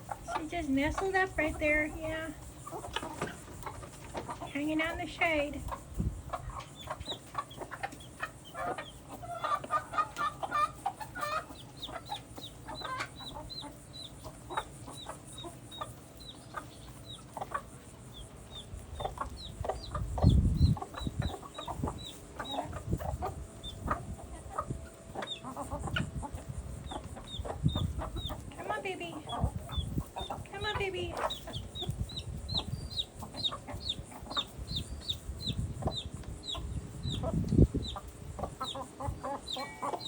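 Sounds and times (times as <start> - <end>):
chicks peeping: 0.0 - 40.0
hen clucking: 0.0 - 40.0.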